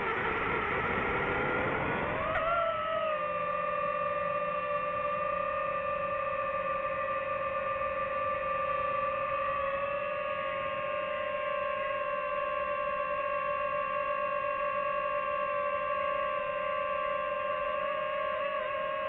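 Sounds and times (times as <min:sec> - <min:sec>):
drone propellers whining: 0:00.0 - 0:15.5.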